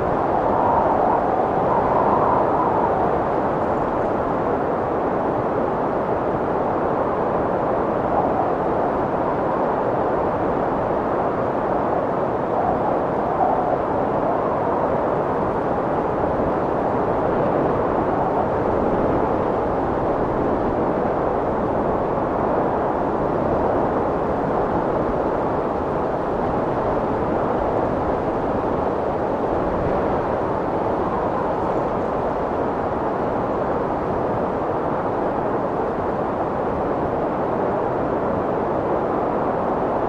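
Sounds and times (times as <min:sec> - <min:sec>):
strong wind blowing: 0:00.0 - 0:40.0.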